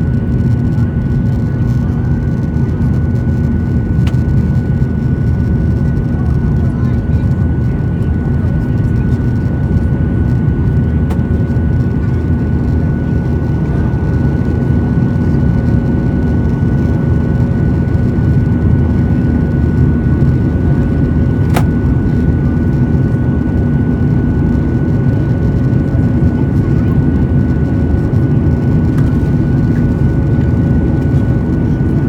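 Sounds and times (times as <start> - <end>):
engine whine: 0.0 - 32.0
jet engine roar in cabin: 0.0 - 32.0.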